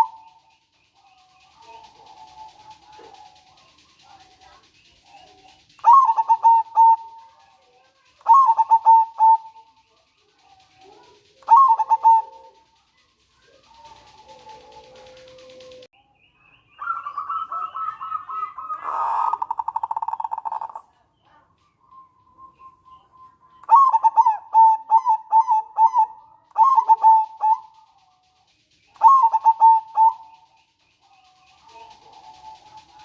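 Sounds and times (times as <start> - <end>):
dove cooing: 0.0 - 15.9, 16.8 - 21.5, 22.5 - 28.4, 29.0 - 33.0
dove rattling trill: 0.0 - 15.9, 16.8 - 33.0.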